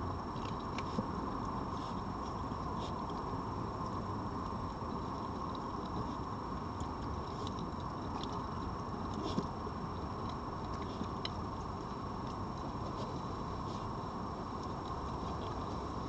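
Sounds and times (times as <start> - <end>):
foxes chewing food: 0.1 - 16.0.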